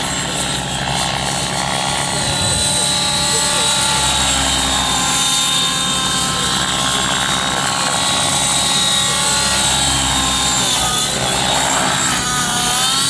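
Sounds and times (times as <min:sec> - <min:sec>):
model helicopter engine whine: 0:00.0 - 0:13.0.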